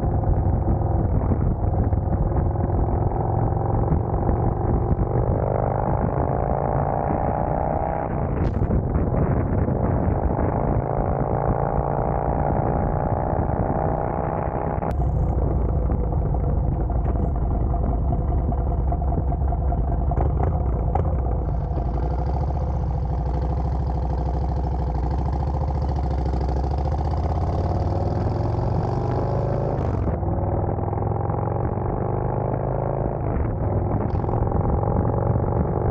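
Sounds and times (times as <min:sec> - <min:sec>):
motorcycle engine running: 0:00.0 - 0:35.9
road noise: 0:00.0 - 0:35.9.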